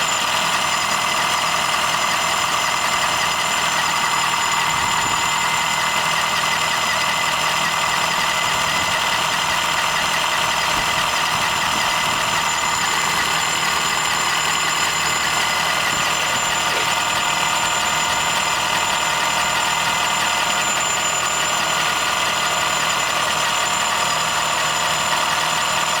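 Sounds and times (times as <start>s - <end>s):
car engine running: 0.0s - 26.0s
high-pitched engine whine: 0.0s - 26.0s.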